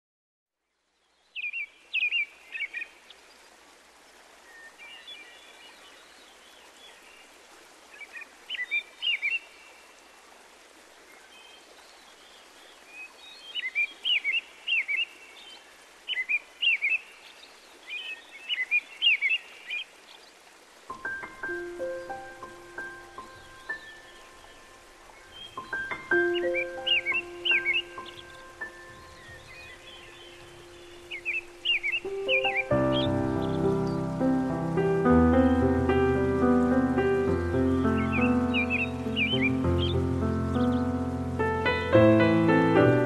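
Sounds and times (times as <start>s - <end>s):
small birds chirping: 0.9s - 10.3s, 10.9s - 42.6s
rain hiss: 1.0s - 43.0s.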